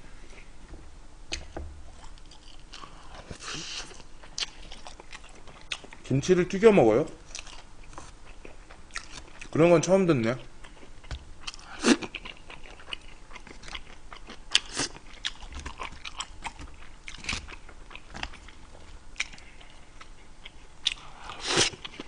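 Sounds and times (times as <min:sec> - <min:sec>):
man chewing with wet smacks: 0:01.3 - 0:06.1, 0:07.2 - 0:09.6, 0:10.6 - 0:22.0.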